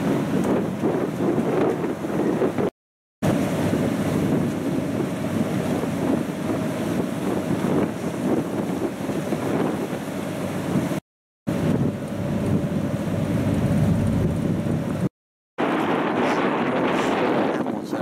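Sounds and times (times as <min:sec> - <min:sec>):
water rushing along hull: 0:00.0 - 0:18.0
wind buffeting microphone: 0:00.0 - 0:18.0.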